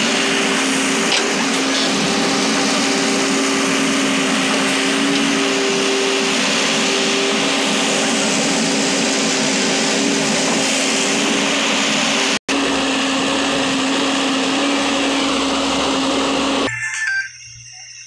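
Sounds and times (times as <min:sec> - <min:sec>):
diesel engine running under load: 0:00.0 - 0:16.7.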